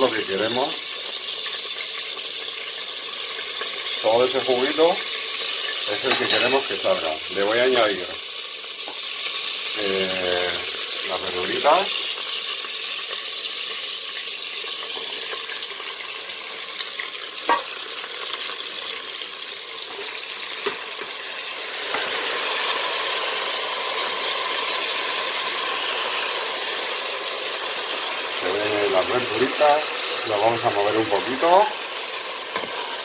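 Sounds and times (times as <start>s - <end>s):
prawn heads sizzling in oil: 0.0s - 33.0s.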